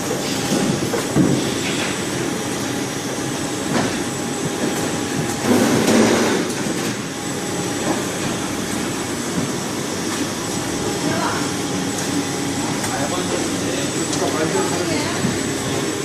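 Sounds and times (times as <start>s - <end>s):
machinery running: 0.0s - 16.0s.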